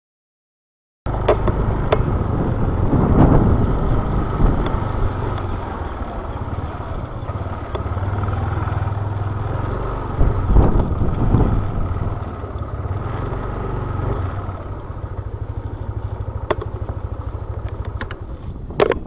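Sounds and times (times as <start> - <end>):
motorcycle engine running: 1.1 - 19.0.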